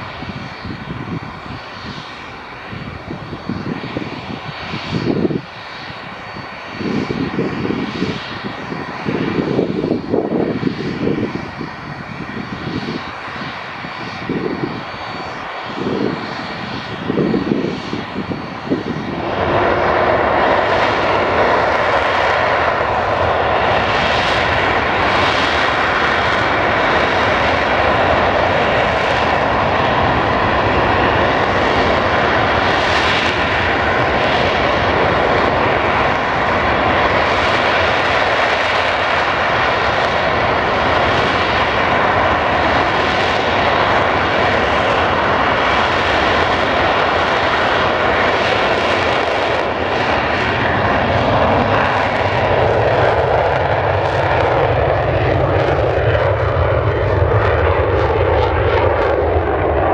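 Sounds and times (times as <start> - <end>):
jet engines running with whine: 0.0 - 59.9.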